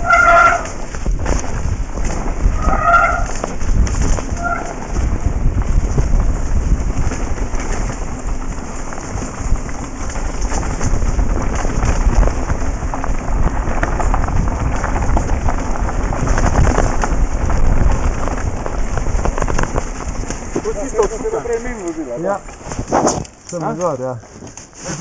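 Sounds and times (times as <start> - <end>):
wind buffeting microphone: 0.0 - 23.4
bike rattling: 0.0 - 25.0
tyres crackling on loose stones: 0.0 - 25.0.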